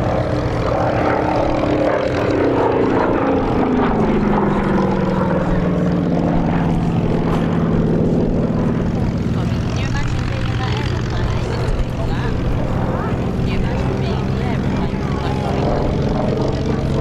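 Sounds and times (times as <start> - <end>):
propeller plane engine passing: 0.0 - 17.0.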